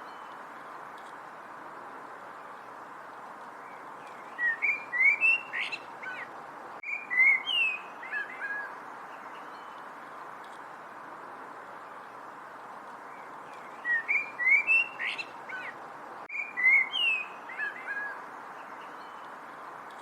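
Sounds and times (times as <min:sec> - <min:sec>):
steady background hiss: 0:00.0 - 0:20.0
songbird chirping: 0:02.2 - 0:10.7, 0:11.8 - 0:20.0.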